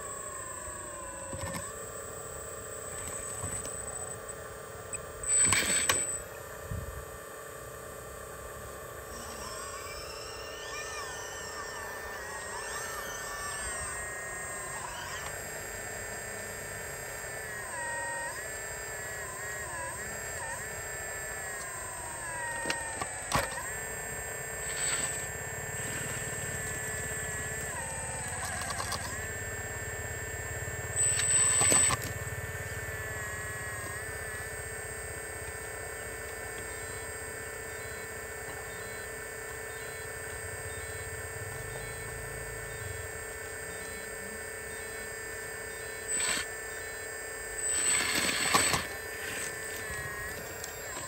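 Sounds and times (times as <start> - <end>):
electric motors whining: 0.0 - 51.0.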